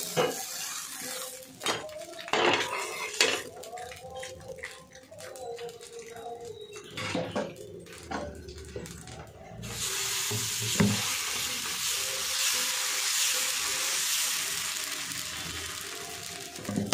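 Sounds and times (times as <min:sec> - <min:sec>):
batter sizzling on hot pan: 0:00.0 - 0:16.9.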